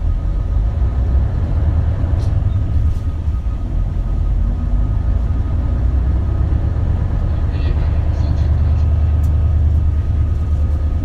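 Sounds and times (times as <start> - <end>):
bus diesel engine and road rumble: 0.0 - 11.0.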